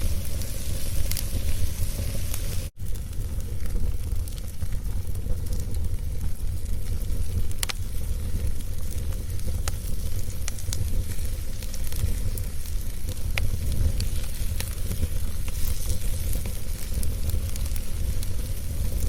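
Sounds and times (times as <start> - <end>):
fire crackling and popping: 0.0 - 19.0
wood fire rumble and hiss: 0.0 - 19.0.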